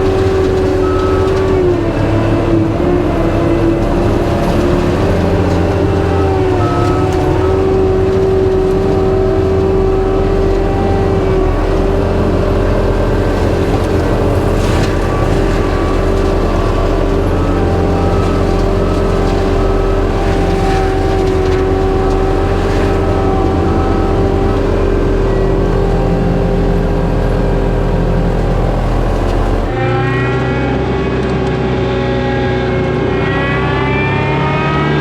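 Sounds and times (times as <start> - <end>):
short noisy crackles: 0.0 - 31.5
skid steer mulcher droning: 0.0 - 35.0.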